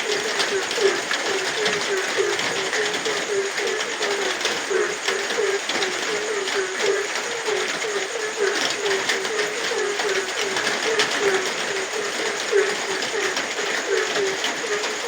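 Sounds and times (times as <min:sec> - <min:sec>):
frogs croaking in chorus: 0:00.0 - 0:15.0
rain falling: 0:00.0 - 0:15.0
raindrops ticking: 0:00.0 - 0:15.0.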